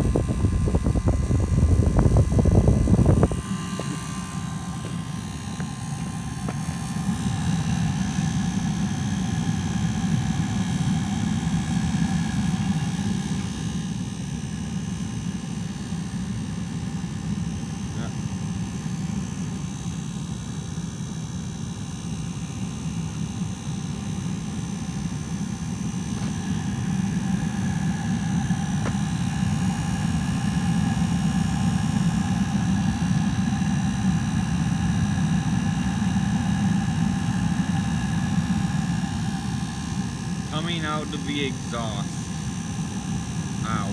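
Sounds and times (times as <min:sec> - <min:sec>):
faint steady whine: 0:00.0 - 0:43.9
heater combustion rumble: 0:00.0 - 0:43.9.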